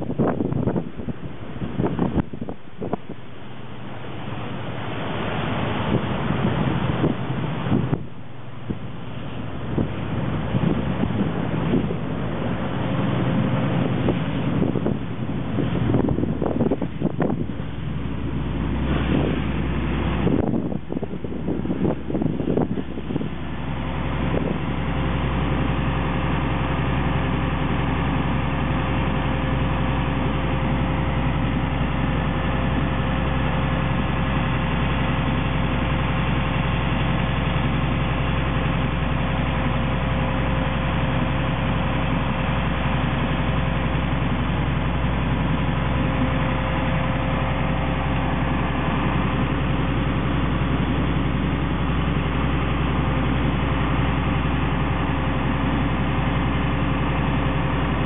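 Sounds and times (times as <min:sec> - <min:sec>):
boat engine droning: 0:00.0 - 0:58.0
faint steady whine: 0:00.0 - 0:58.0.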